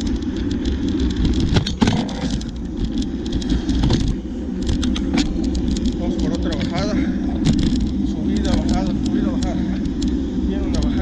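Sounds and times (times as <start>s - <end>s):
bicycle riding rumble: 0.0s - 11.0s
road noise: 0.0s - 11.0s
sharp clicks and rattles: 0.0s - 11.0s
wind: 0.0s - 11.0s.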